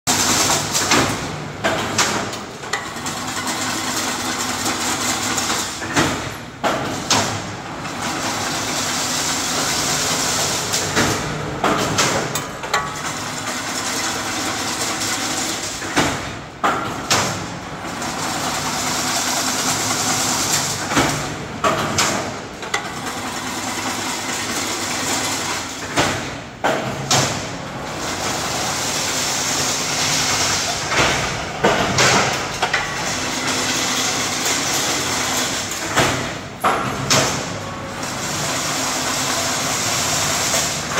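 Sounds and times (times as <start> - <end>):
machine clanks and knocks: 0.1 - 40.9
machine whirring: 0.1 - 40.9.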